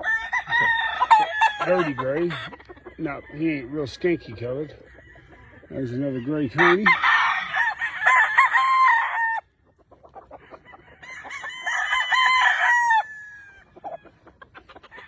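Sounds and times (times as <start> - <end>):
roosters crowing: 0.0 - 15.0.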